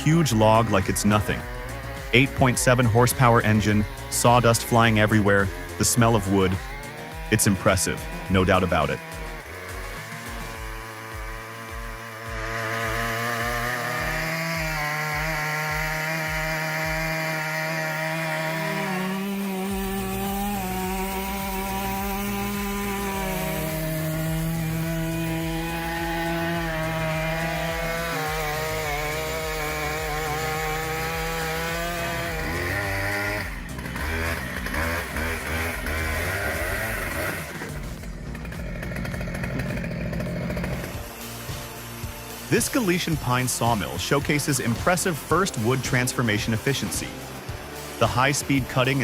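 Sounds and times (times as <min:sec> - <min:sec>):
chainsaw cutting through log: 0:00.0 - 0:49.0.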